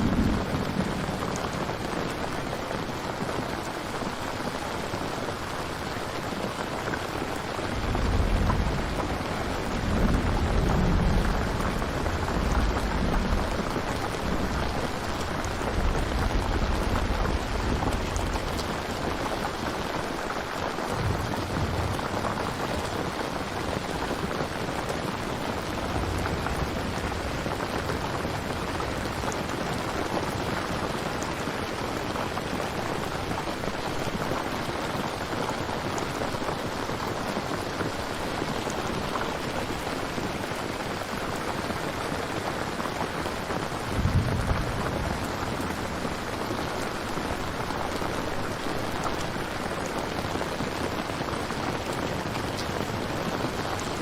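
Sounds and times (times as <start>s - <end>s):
steady rain: 0.0s - 54.0s
thunder rumbles: 0.0s - 54.0s.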